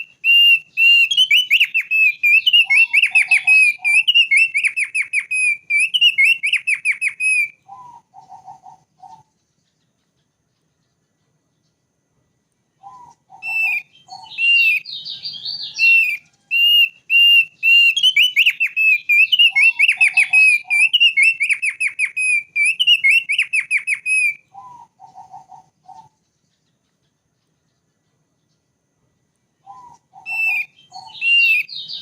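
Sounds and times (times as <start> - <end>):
bird singing whistled trills: 0.0 - 11.8, 12.7 - 28.7, 29.6 - 32.0.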